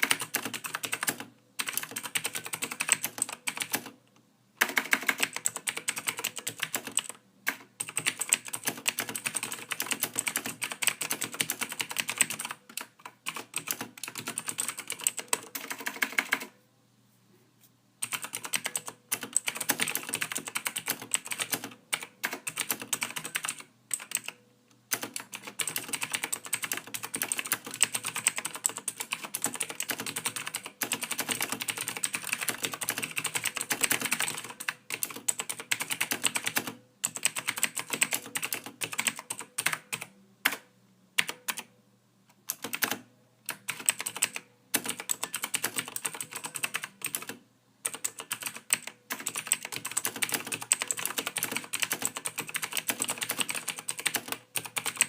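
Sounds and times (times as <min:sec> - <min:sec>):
typing on computer keyboard: 0:00.0 - 0:04.0, 0:04.6 - 0:16.6, 0:18.0 - 0:41.7, 0:42.4 - 0:55.0.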